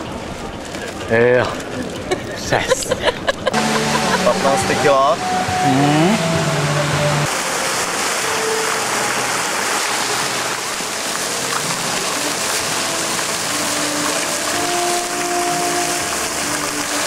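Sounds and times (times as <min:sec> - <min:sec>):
fountain jets splashing into pool: 0:00.0 - 0:17.0.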